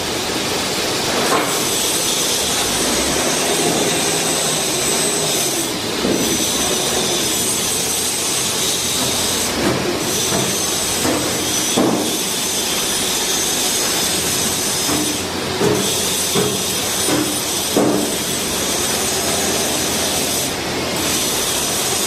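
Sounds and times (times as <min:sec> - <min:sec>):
factory machinery noise: 0:00.0 - 0:22.0.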